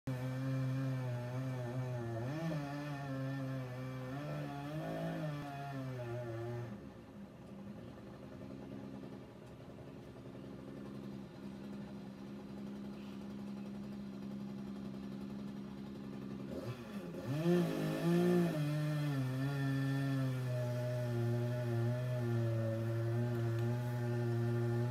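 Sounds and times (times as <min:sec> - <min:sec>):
muffled chainsaw revving: 0:00.1 - 0:24.9.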